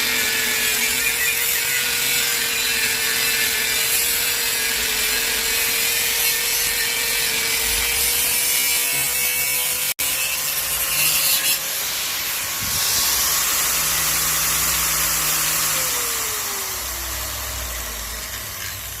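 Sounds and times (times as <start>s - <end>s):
angle grinder cutting: 0.0s - 19.0s.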